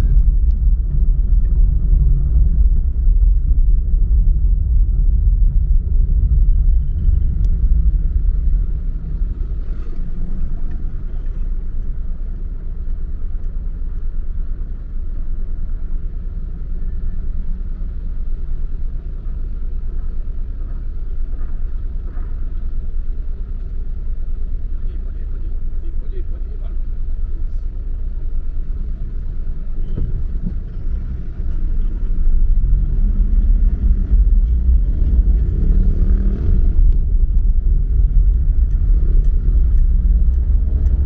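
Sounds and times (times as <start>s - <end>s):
car road and engine rumble: 0.0s - 41.0s.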